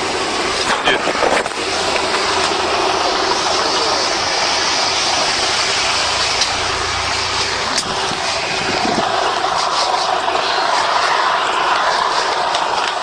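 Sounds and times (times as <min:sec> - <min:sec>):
motor vehicle rushing noise: 0:00.0 - 0:13.0.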